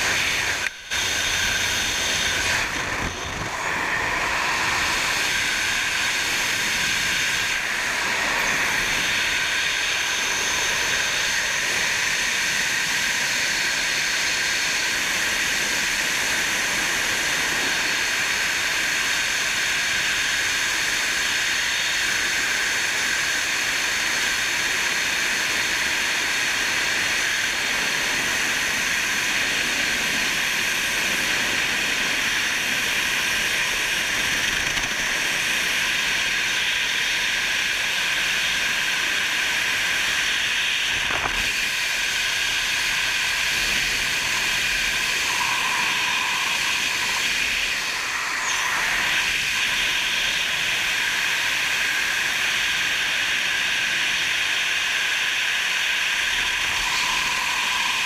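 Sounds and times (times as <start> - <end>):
rushing wind noise: 0.0 - 58.0.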